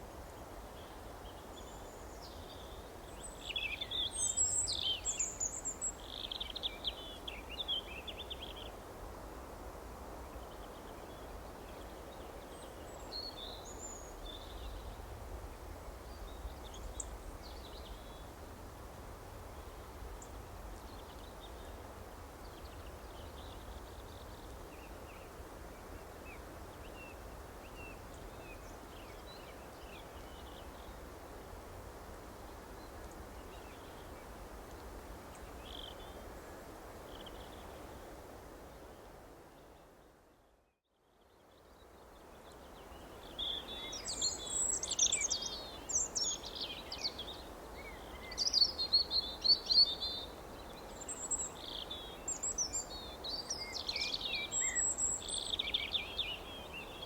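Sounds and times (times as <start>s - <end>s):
small songbirds chirping: 0.2s - 8.8s, 10.2s - 18.4s, 19.5s - 31.1s, 32.6s - 38.2s, 41.0s - 57.0s.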